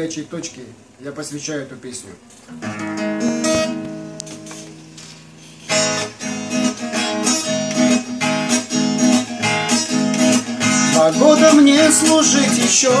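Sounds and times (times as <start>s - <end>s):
acoustic guitar strumming: 2.5s - 13.0s.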